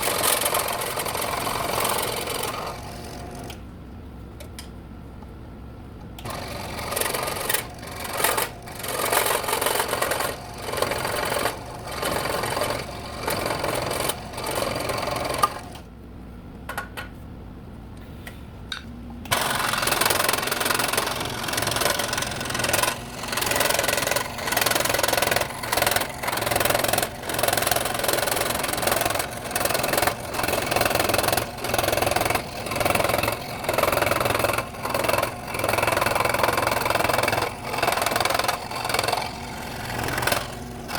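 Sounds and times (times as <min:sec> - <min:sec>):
scroll saw cutting wood: 0:00.0 - 0:03.6, 0:06.2 - 0:15.8, 0:19.3 - 0:40.9.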